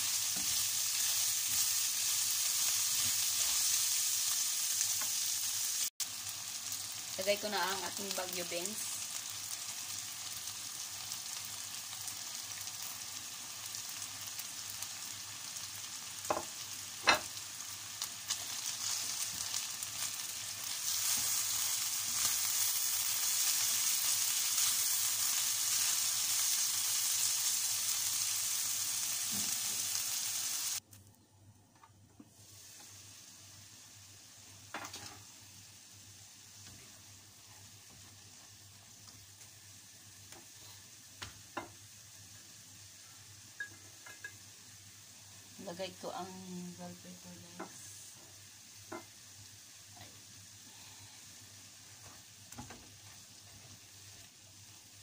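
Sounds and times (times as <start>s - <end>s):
food sizzling in a frying pan: 0.0s - 30.8s, 32.3s - 55.0s.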